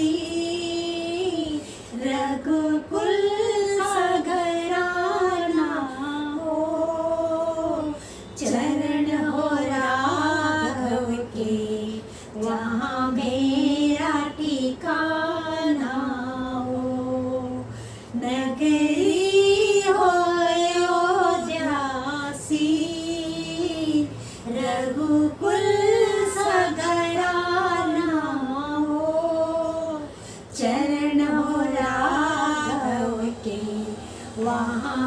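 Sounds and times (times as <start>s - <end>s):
women singing devotional song: 0.0s - 35.0s.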